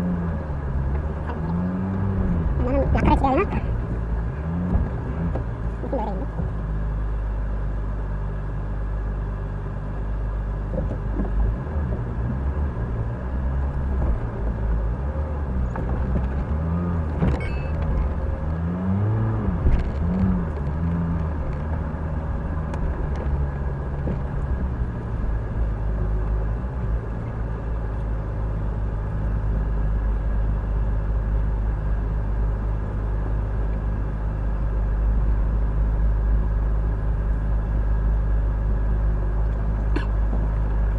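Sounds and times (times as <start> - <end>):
off-road vehicle engine rumble: 0.0 - 40.9.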